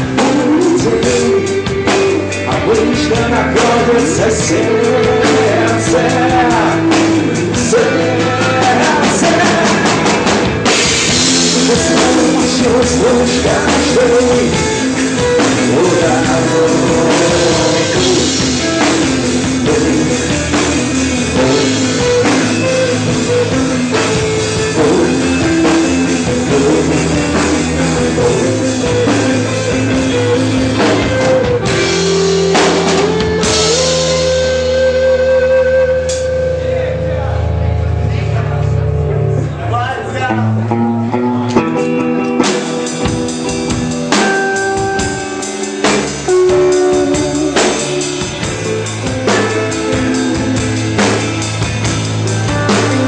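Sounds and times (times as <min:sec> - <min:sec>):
cymbals and drums: 0:00.0 - 0:35.0, 0:42.3 - 0:53.0
rock band playing: 0:00.0 - 0:53.0.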